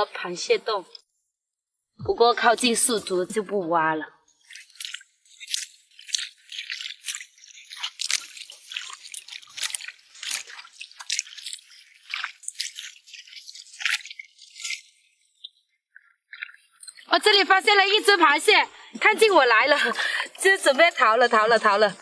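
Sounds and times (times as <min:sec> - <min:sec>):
boots splashing through shallow water: 0:04.3 - 0:22.0.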